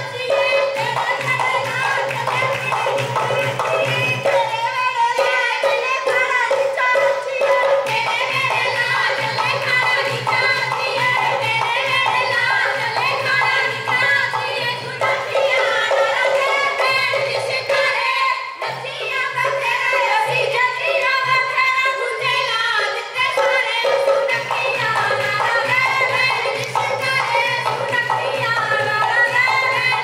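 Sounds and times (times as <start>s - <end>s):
women singing in chorus: 0.0s - 30.0s.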